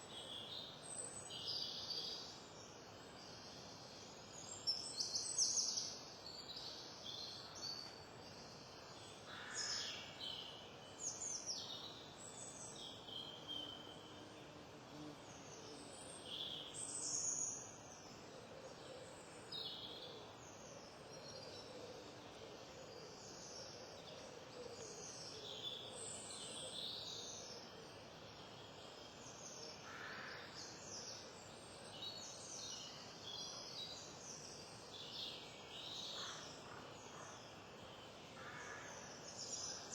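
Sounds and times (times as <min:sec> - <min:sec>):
songbirds chirping and twittering: 0:00.0 - 0:39.9
steady outdoor hiss: 0:00.0 - 0:39.9.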